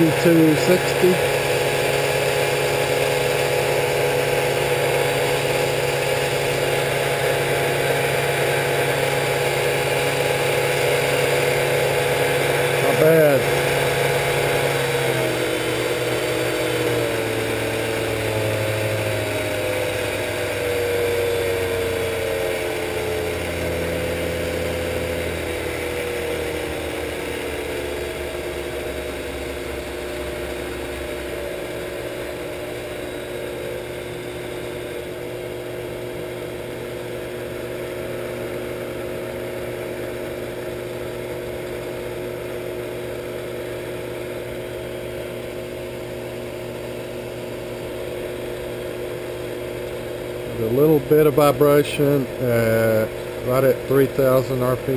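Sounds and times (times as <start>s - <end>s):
motor whine: 0.0s - 54.9s.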